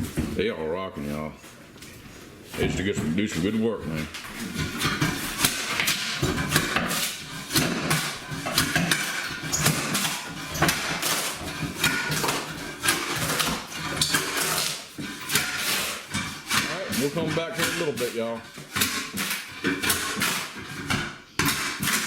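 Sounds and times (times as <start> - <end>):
wood flooring being torn up: 2.5 - 22.0.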